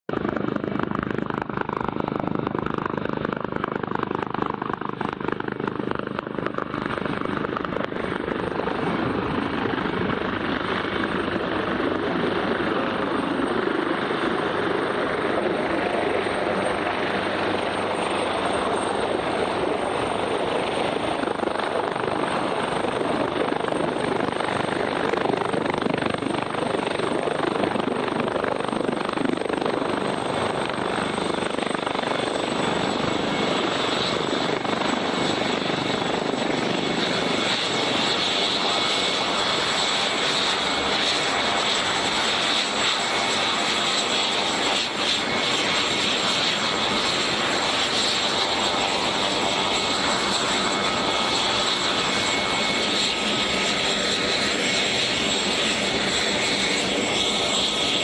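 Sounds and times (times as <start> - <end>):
helicopter rotor and engine noise: 0.0 - 58.0
high turbine whine: 0.1 - 58.0.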